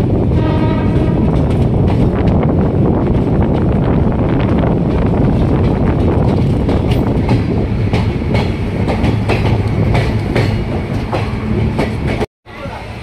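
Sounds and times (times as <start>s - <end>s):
train rumbling on track: 0.0s - 13.0s
wheels clacking over rail joints: 0.7s - 12.3s.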